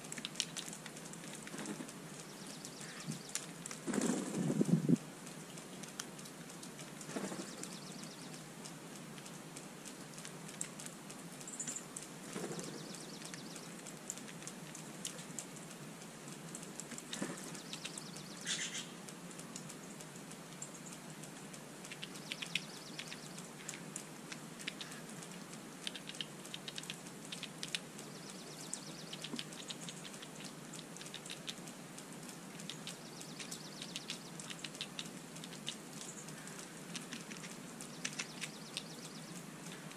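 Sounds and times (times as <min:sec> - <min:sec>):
birds pecking on concrete: 0:00.0 - 0:39.9
outdoor hiss: 0:00.0 - 0:39.9.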